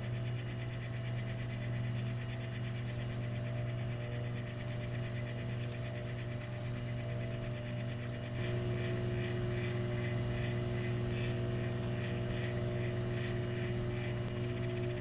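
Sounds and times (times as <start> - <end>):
faint rhythmic pulsing: 0.0 - 15.0
microwave oven humming: 0.0 - 15.0.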